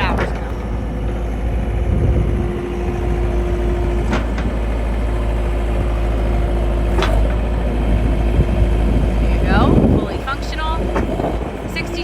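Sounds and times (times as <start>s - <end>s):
diesel engine running: 0.0s - 12.0s
steady whine: 0.0s - 12.0s.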